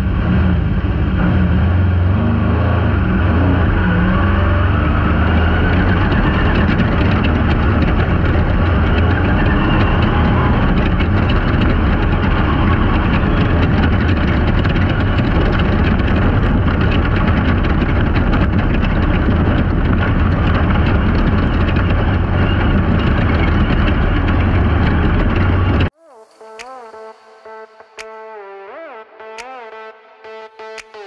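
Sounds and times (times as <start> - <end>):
loud race car engine: 0.0 - 25.9
wind noise: 0.0 - 25.9
road noise: 0.0 - 26.0.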